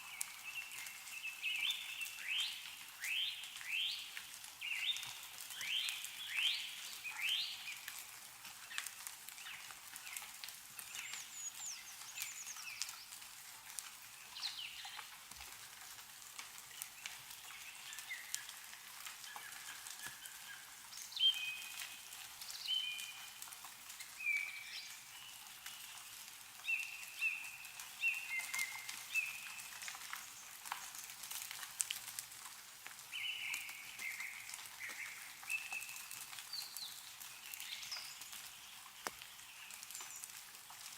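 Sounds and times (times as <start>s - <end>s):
meltwater dripping from trees: 0.0s - 40.9s.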